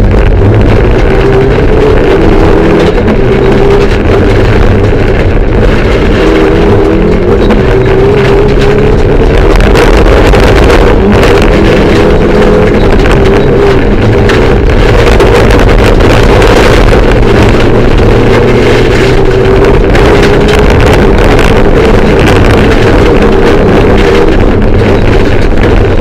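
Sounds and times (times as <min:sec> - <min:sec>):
car engine running hard: 0:00.0 - 0:26.0
road and wind noise: 0:00.0 - 0:26.0.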